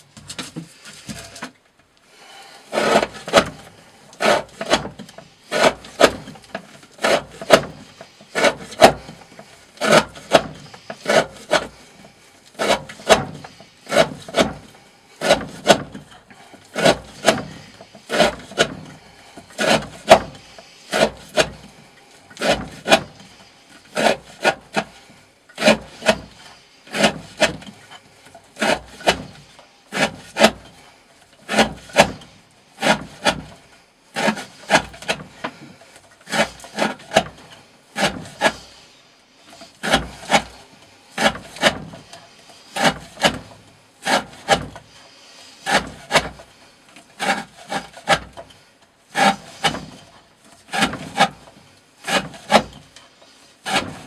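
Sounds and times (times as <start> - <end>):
knife rasping through rope: 2.3 - 38.8, 39.4 - 54.0.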